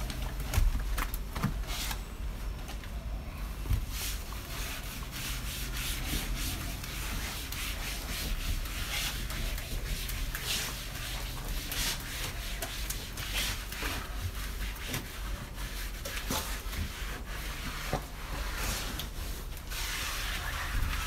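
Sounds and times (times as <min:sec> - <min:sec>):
wash mitt scrubbing wet car: 0:03.8 - 0:21.0.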